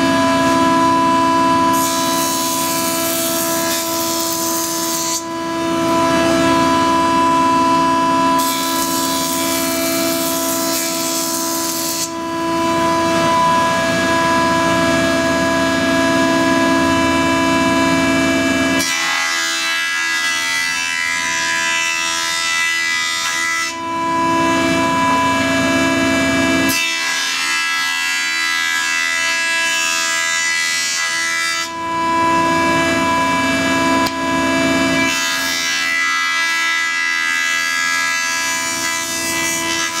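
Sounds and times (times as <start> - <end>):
boards being planed: 0.0 - 16.2, 17.8 - 40.0
planer cutterhead whine: 0.0 - 40.0.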